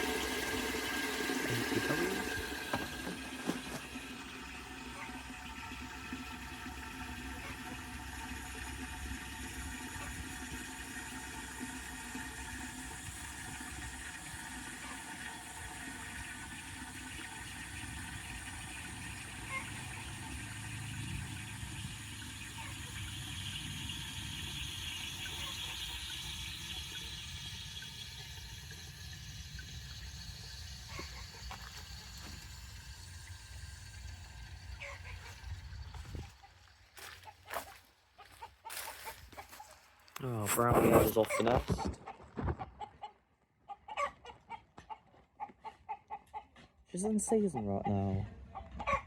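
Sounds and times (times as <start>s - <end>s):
water running in toilet cistern: 0.0s - 41.9s.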